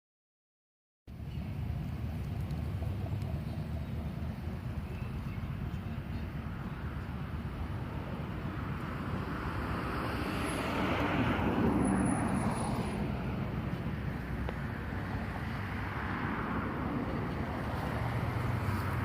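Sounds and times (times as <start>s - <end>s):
steady traffic rumble: 1.1s - 19.0s
car passing: 1.5s - 19.0s.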